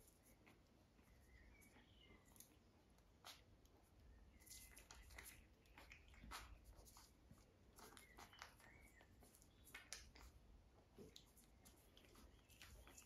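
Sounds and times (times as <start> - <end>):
puppies scratching and scuffling: 0.0 - 13.0.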